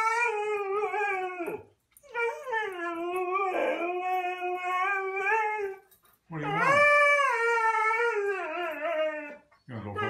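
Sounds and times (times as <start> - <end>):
dog howling: 0.0 - 5.8, 6.4 - 10.0.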